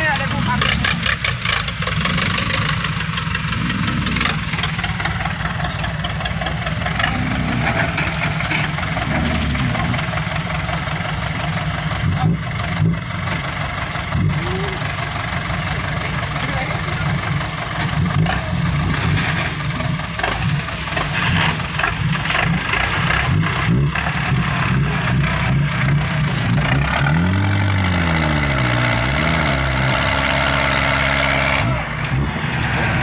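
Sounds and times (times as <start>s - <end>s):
vehicle engine revving unevenly: 0.0s - 33.0s.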